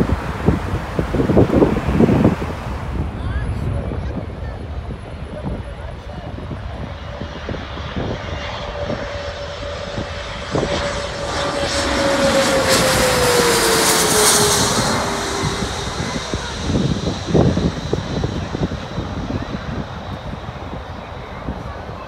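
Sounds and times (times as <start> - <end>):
jet engines whining overhead: 0.0 - 22.0
wind rumble on microphone: 0.0 - 22.0.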